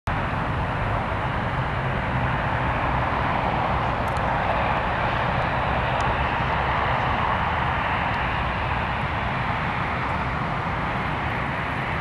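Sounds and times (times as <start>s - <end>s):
jet engine rumble: 0.1s - 12.0s.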